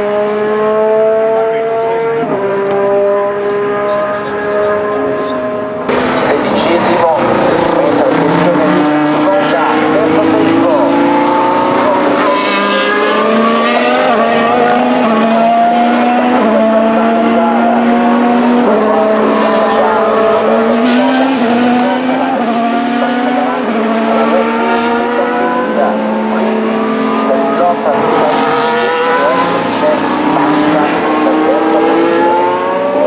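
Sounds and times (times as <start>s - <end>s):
racing car engines at speed: 0.0s - 33.0s.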